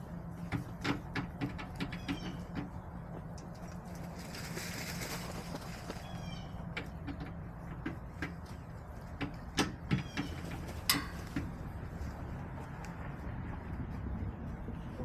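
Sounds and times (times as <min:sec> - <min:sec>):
hens pecking in dirt: 0:00.0 - 0:15.0.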